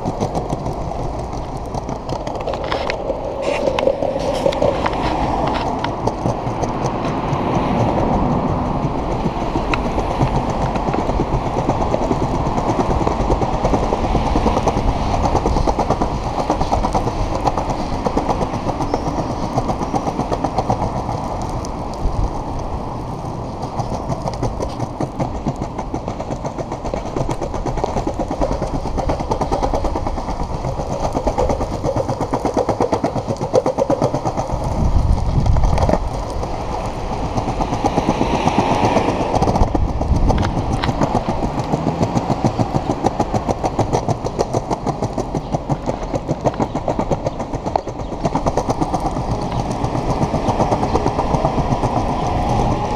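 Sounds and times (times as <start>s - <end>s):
skateboard wheel rumble: 0.0s - 52.9s
wheels clacking over joints: 0.0s - 52.9s.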